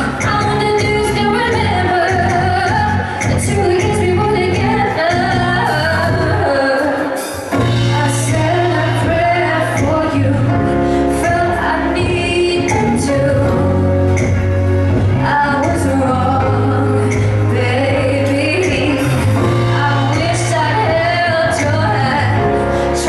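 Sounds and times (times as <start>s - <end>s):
steady bass line: 0.0s - 6.6s, 7.6s - 23.0s
drum kit with cymbal hits: 0.0s - 23.0s
woman singing into a microphone: 0.0s - 23.0s.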